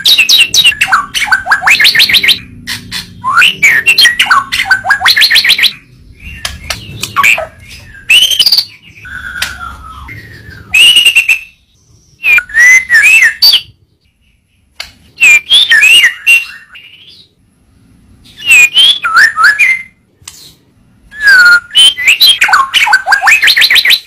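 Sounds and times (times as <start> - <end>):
songbird whistling and warbling: 0.0 - 14.4, 15.2 - 17.3, 18.3 - 24.0.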